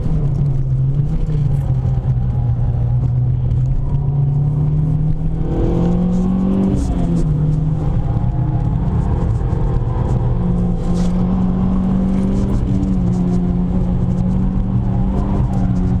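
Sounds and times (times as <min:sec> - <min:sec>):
car engine running under load: 0:00.0 - 0:16.0.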